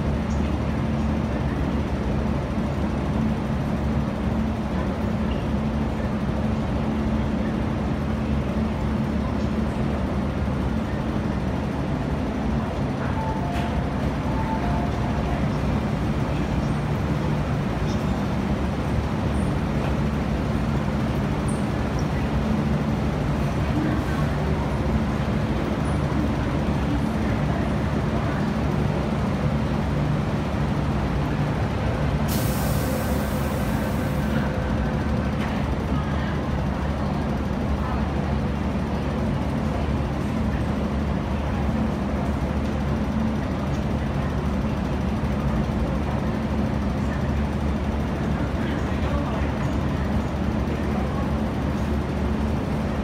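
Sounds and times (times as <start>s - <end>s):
train humming at platform: 0.0s - 53.0s.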